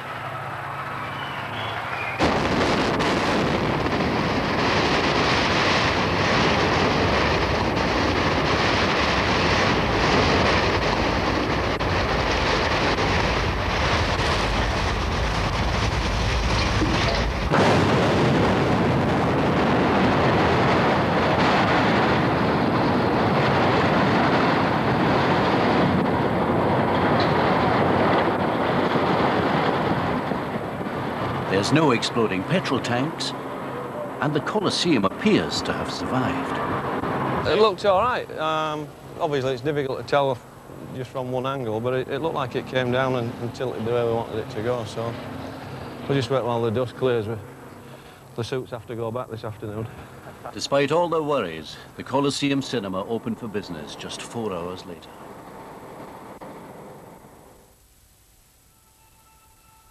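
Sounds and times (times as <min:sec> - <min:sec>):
building collapse rushing rumble: 0:00.0 - 0:57.6.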